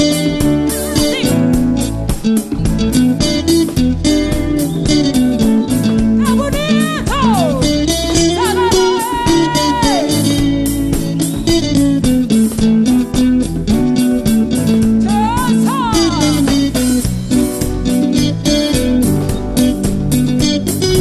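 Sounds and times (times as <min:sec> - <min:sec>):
lead guitar sliding notes: 0:00.0 - 0:11.9, 0:13.2 - 0:19.8
live rock band playing: 0:00.0 - 0:21.0.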